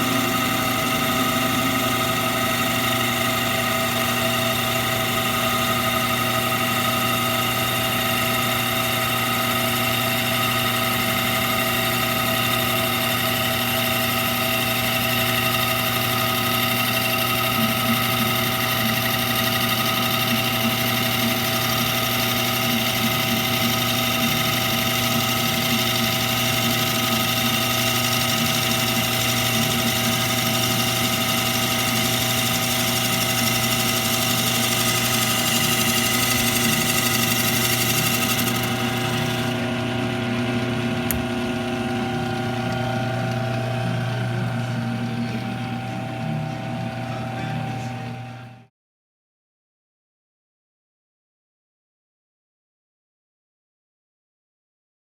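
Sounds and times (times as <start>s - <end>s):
metal lathe humming and whining: 0.0s - 48.6s.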